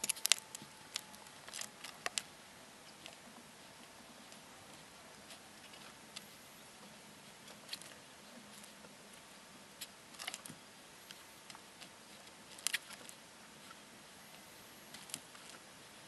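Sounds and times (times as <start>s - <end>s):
low steady hiss: 0.0s - 16.0s.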